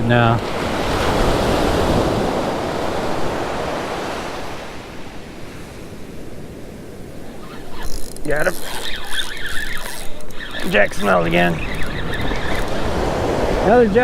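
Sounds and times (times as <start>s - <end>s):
ocean wave breaking: 0.0s - 14.0s.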